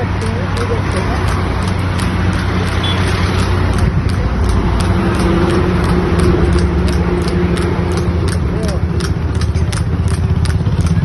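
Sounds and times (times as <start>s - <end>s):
road noise: 0.0s - 11.0s
vehicle engine running: 0.0s - 11.0s
regular light clicking: 0.1s - 10.9s.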